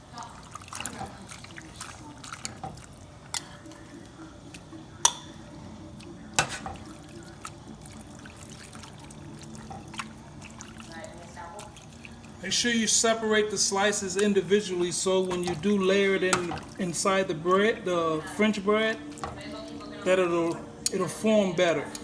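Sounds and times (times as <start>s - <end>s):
liquid boiling in a pan: 0.0s - 22.0s
liquid dripping: 0.0s - 22.0s.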